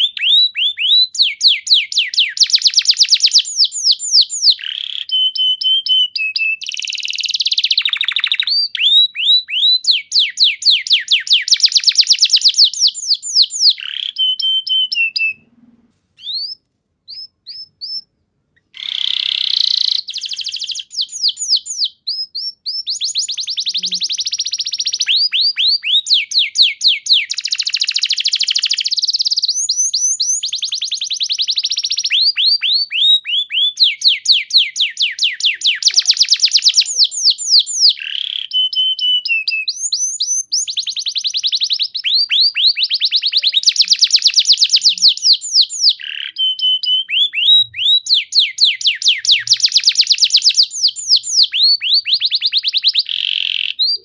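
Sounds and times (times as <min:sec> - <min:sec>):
canary singing trills: 0:00.0 - 0:15.5, 0:16.2 - 0:54.0.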